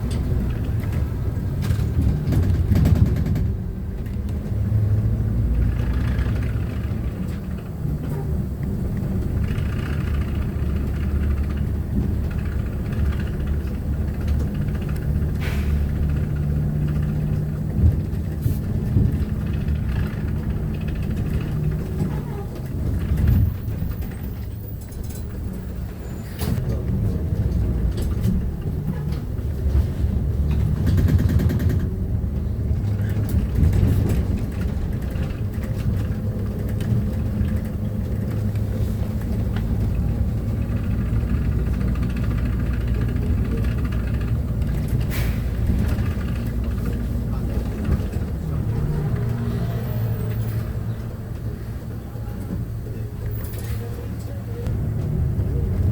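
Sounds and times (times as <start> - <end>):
bus engine rumble: 0.0 - 55.9
rattles and clicks: 0.0 - 55.9
road noise: 0.0 - 55.9.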